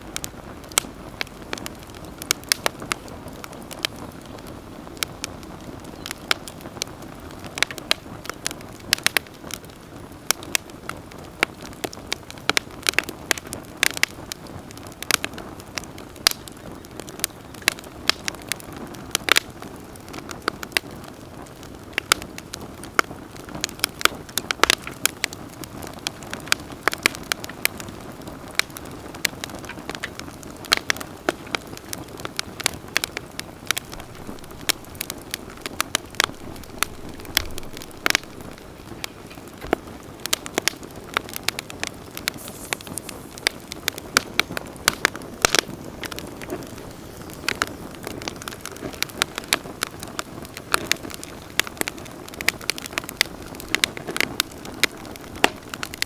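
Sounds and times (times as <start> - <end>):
campfire crackling and popping: 0.0 - 56.0
low rush of burning flames: 0.0 - 56.0.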